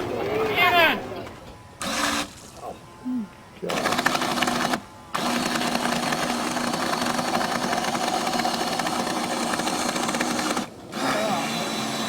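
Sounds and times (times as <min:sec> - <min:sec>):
toy boat motor buzzing whine: 0:00.0 - 0:12.0.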